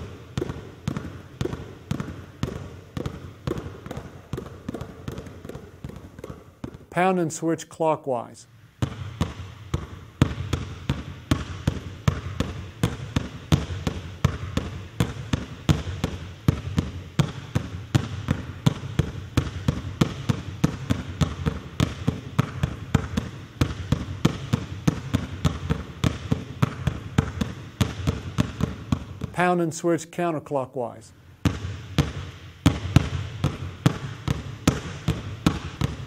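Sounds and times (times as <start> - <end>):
basketballs bouncing on wooden floor: 0.0 - 7.4, 8.8 - 29.7, 31.4 - 36.0.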